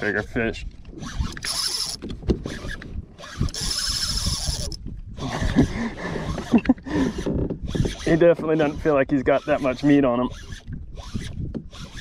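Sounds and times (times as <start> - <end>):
fishing reel gears whirring: 0.0 - 12.0.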